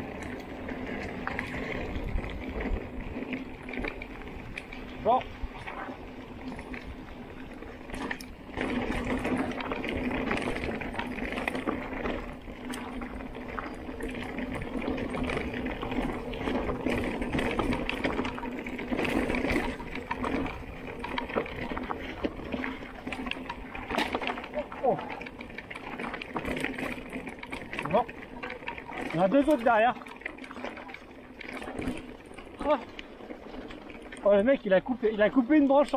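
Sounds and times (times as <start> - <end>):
bike tyres crackling over gravel: 0.0 - 35.9.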